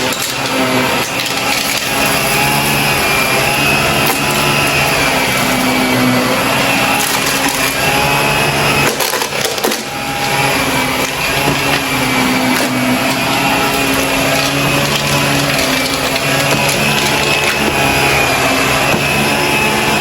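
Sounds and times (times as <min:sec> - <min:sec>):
vacuum cleaner motor hum: 0:00.0 - 0:20.0.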